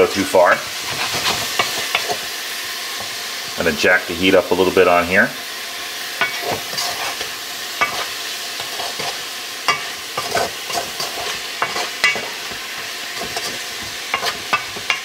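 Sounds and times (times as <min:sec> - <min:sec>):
wooden spoon scraping a pot: 0:00.0 - 0:03.6, 0:06.2 - 0:15.0
vegetables sizzling: 0:00.0 - 0:15.0.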